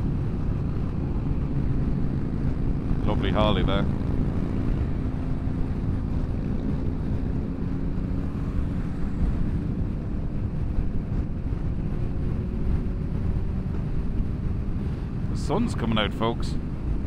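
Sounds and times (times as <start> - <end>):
motorcycle engine running: 0.0 - 15.4
wind rushing over microphone: 0.0 - 17.0.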